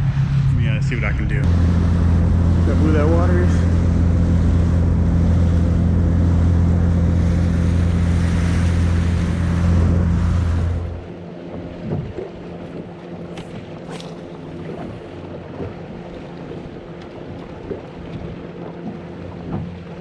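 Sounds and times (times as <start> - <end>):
outboard motor running: 0.0 - 20.0
rushing water: 0.0 - 20.0
wind: 0.0 - 20.0.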